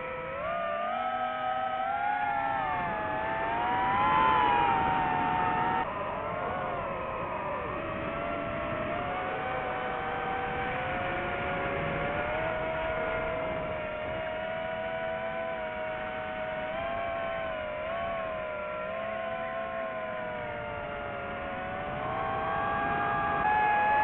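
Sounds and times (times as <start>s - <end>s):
drone propellers whining: 1.6s - 5.9s, 6.6s - 24.0s.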